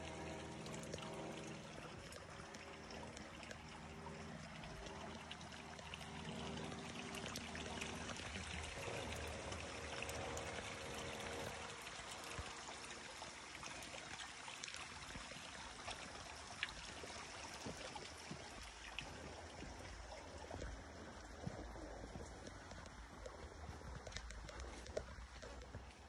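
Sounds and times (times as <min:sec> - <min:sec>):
stream running: 0:00.0 - 0:26.0.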